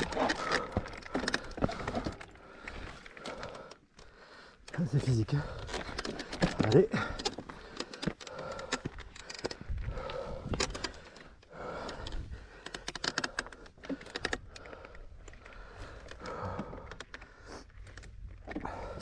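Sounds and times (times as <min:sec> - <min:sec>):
bike clicks and rattles: 0:00.0 - 0:19.0
heavy breathing: 0:00.0 - 0:19.0.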